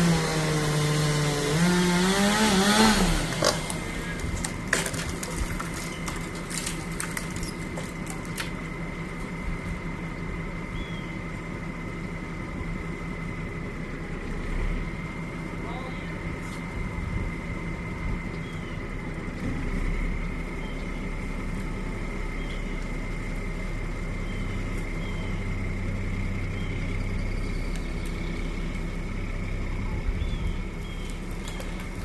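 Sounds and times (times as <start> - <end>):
truck engine running: 0.0 - 32.0.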